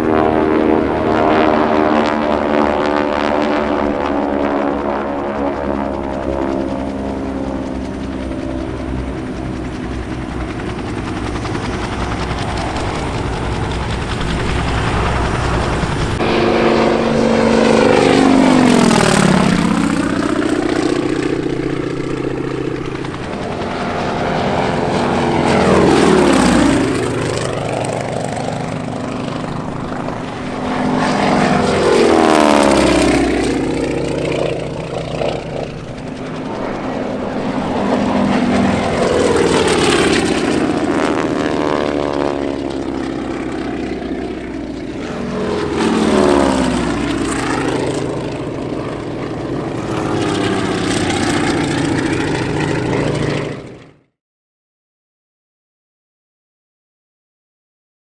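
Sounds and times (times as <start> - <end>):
plane flying low past: 0.0 - 54.1
propeller planes droning overhead: 0.0 - 54.2.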